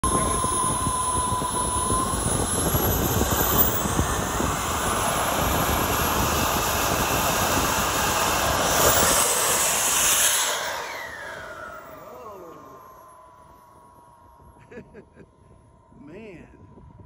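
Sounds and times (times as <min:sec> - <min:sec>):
model jet engine rush and whine: 0:00.0 - 0:17.0.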